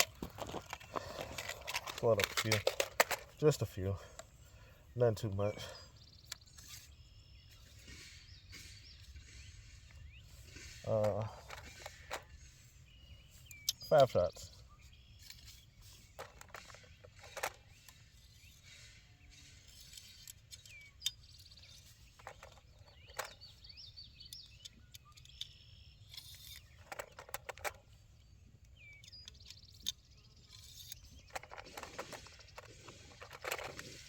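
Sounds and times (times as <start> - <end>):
faint birds chirping: 0.0 - 34.0.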